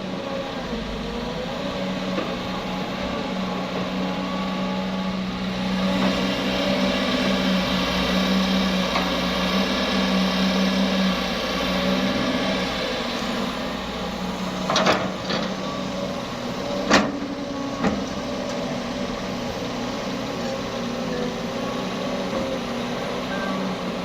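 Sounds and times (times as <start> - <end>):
diesel engine running steadily: 0.0 - 24.0.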